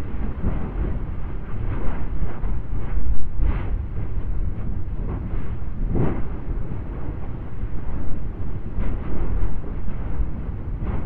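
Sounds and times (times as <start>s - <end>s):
deep volcanic rumble: 0.0s - 11.0s.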